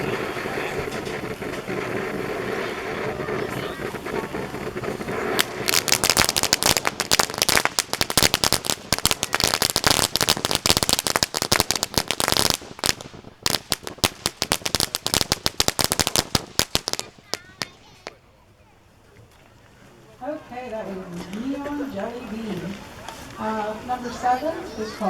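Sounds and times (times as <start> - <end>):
firework fountain crackling: 0.0 - 25.0.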